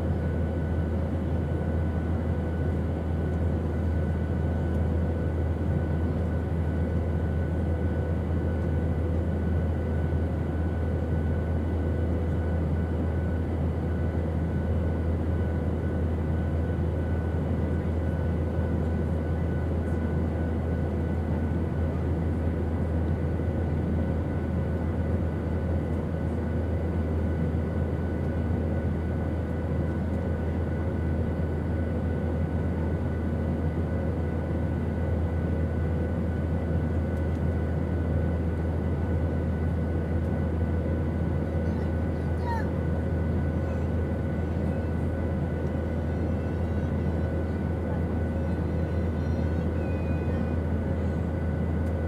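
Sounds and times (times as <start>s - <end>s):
airplane engine drone: 0.0s - 52.0s.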